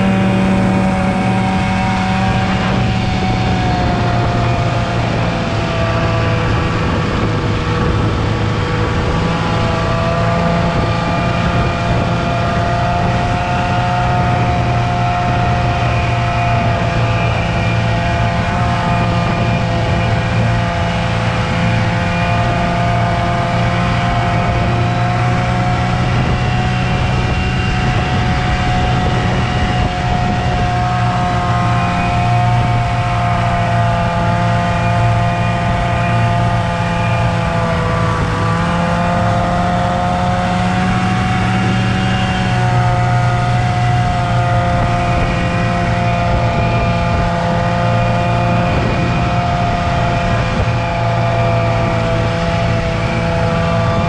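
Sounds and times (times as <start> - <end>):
snowmobile engine whine: 0.0 - 54.0.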